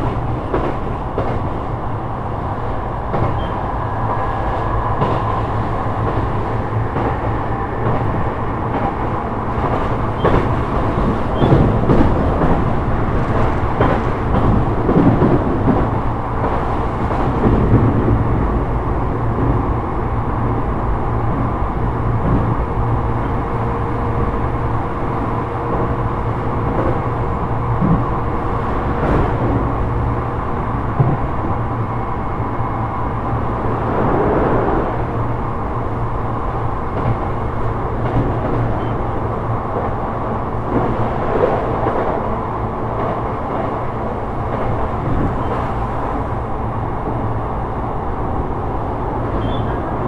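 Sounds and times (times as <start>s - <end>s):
track knocks: 0.0s - 18.6s, 21.3s - 31.9s, 33.2s - 50.0s
train wheels rumbling on rail: 0.0s - 50.0s.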